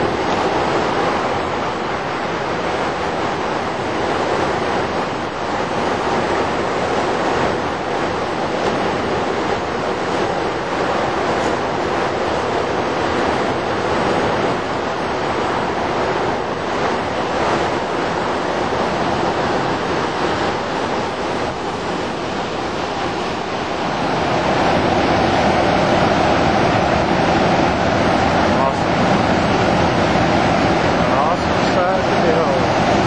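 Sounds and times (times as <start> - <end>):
rushing whitewater: 0.0 - 33.0.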